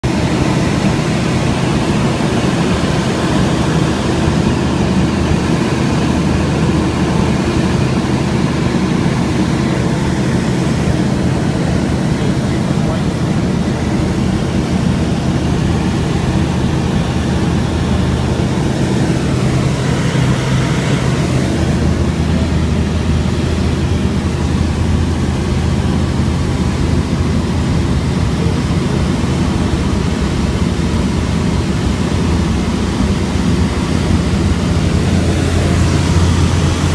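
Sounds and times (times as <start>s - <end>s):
propeller aircraft engines droning: 0.0s - 36.9s.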